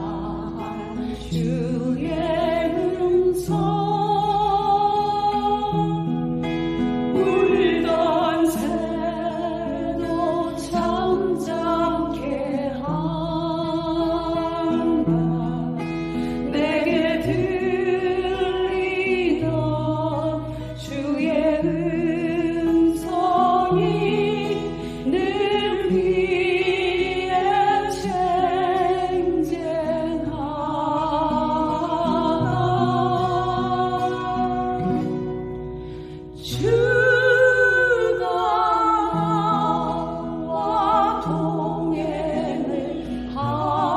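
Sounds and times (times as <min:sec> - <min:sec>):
person singing with vibrato: 0:00.0 - 0:43.9.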